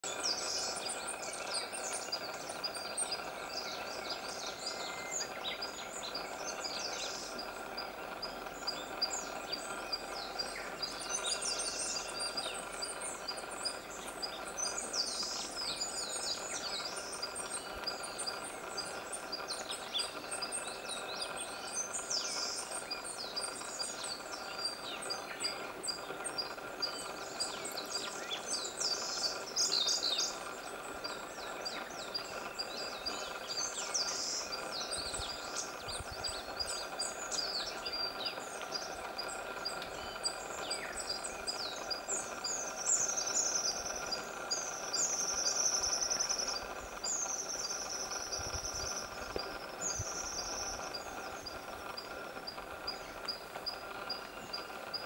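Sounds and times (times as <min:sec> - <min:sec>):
faint background hum: 0:00.0 - 0:55.0
small birds chirping: 0:00.0 - 0:55.0.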